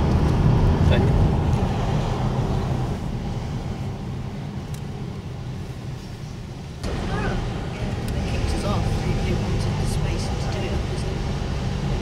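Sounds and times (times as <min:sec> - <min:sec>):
road and engine noise inside car: 0:00.0 - 0:12.0.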